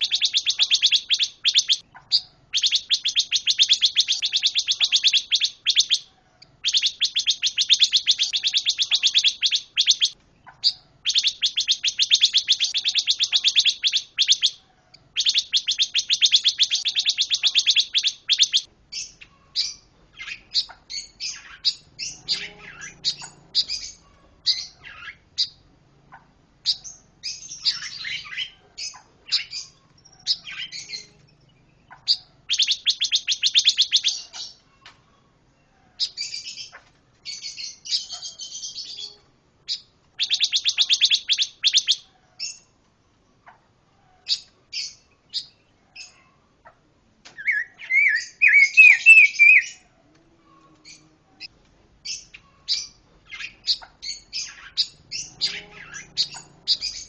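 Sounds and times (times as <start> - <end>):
songbird trilling and chirping: 0.0 - 42.7, 43.4 - 49.9, 50.5 - 57.0.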